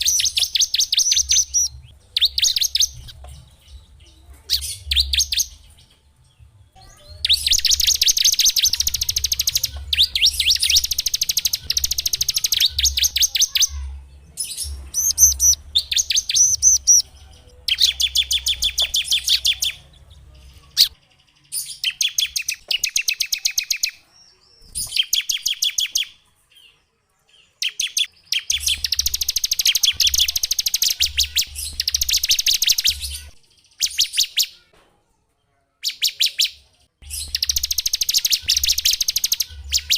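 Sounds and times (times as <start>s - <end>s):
songbirds trilling: 0.0s - 34.7s, 35.8s - 39.9s.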